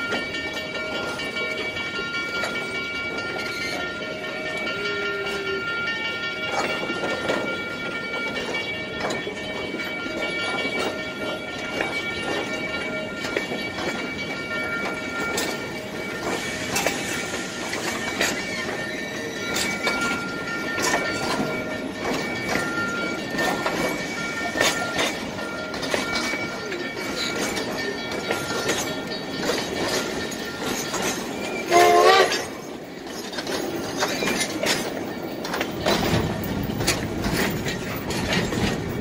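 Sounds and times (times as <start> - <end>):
train coaches rolling past: 0.0 - 39.0.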